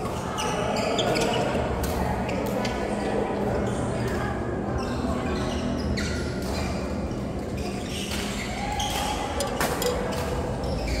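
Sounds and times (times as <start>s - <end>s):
low hum of hall: 0.0s - 11.0s.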